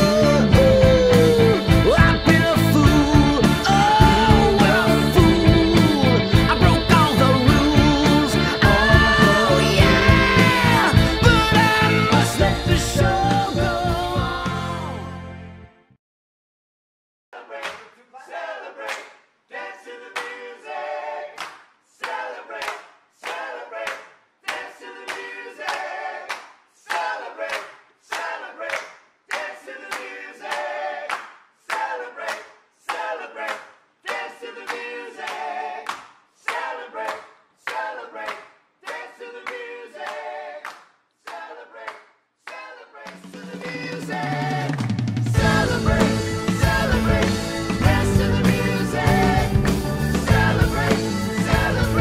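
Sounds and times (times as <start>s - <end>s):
hands clapping a steady beat: 0.0s - 14.6s, 17.6s - 18.0s, 18.8s - 19.2s, 20.1s - 20.4s, 21.3s - 52.0s
group singing a cappella: 0.0s - 15.2s, 17.4s - 52.0s.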